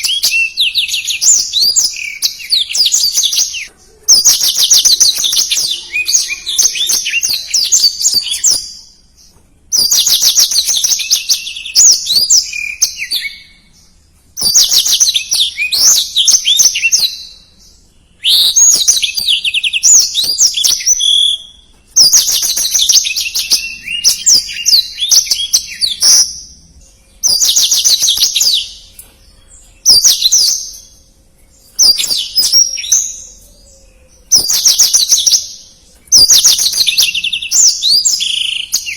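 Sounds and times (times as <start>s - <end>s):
canary trilling song: 0.0s - 38.9s.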